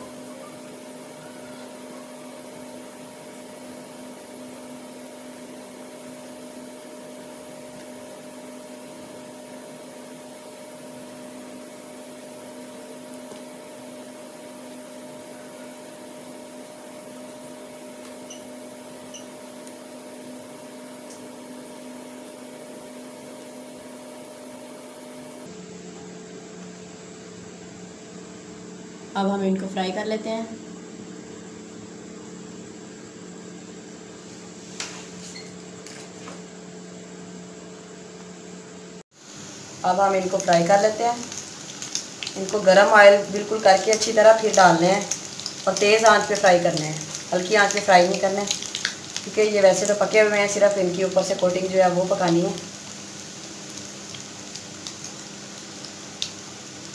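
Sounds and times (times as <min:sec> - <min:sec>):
machine hum and hiss: 0:00.0 - 0:56.9.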